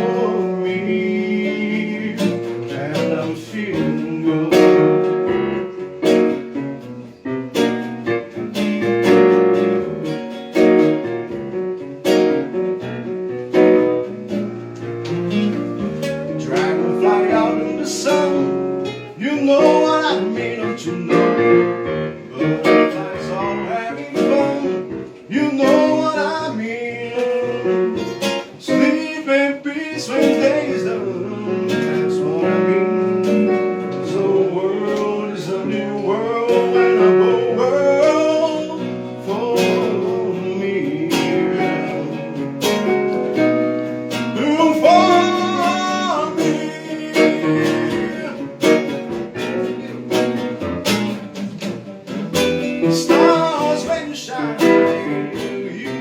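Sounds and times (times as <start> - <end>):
man singing: 0.0 - 6.6, 14.0 - 50.4, 52.4 - 56.0
acoustic guitar strumming: 0.0 - 56.0.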